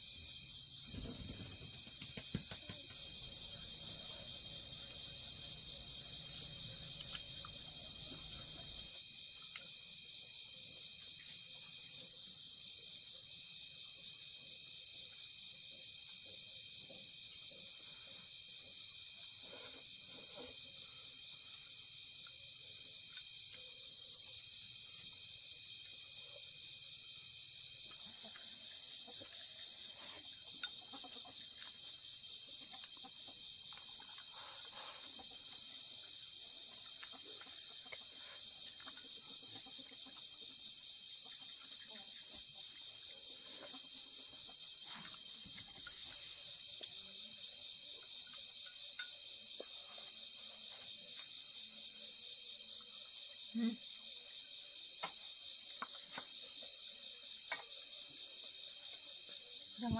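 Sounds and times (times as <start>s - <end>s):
faint insect call: 0.0s - 59.9s
insects chirring: 0.0s - 59.9s.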